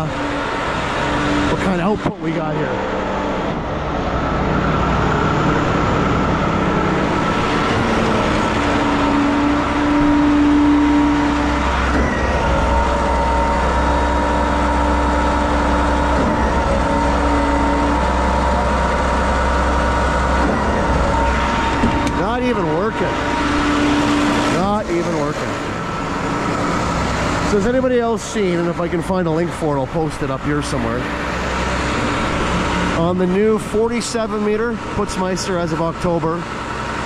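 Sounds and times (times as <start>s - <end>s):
diesel engine running under load: 0.0s - 37.0s
hydraulic pump whining: 0.0s - 37.0s.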